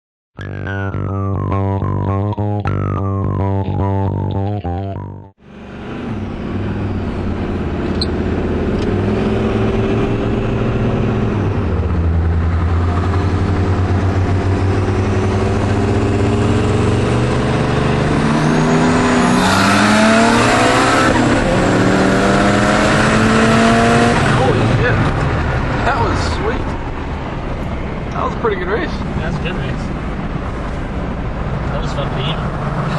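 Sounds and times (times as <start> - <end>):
car engines accelerating hard: 5.4 - 32.9.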